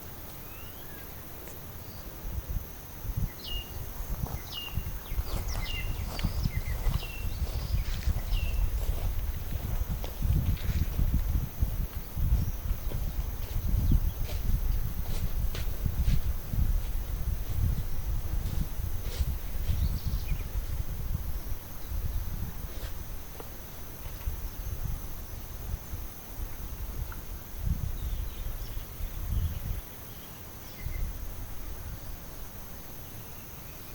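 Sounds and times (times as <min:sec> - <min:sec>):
wind rumbling on microphone: 0:00.0 - 0:33.2
high insect hum: 0:00.0 - 0:33.9.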